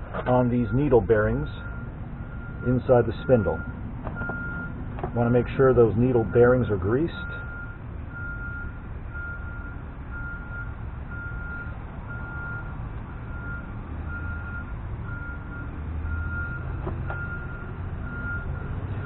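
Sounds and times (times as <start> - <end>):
truck engine rumble: 0.0 - 19.0
reversing alarm beeping: 0.6 - 19.0.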